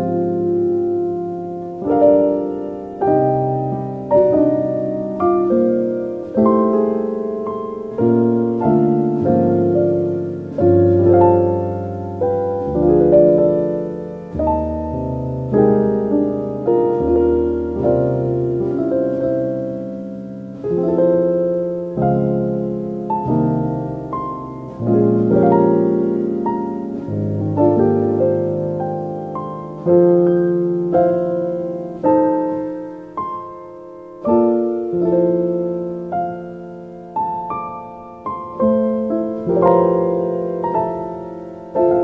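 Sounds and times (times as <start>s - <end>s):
slow solo piano: 0.0s - 42.0s.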